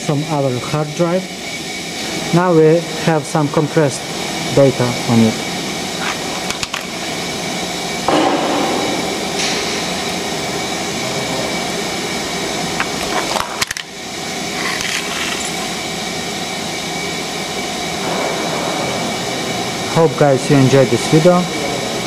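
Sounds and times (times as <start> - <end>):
power press motor humming: 0.0 - 22.0.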